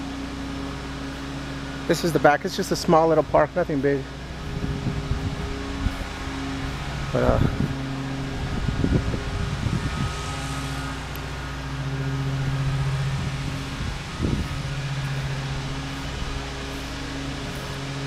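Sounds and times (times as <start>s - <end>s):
low bumps: 0.0s - 18.0s
mechanical hum: 0.0s - 18.0s.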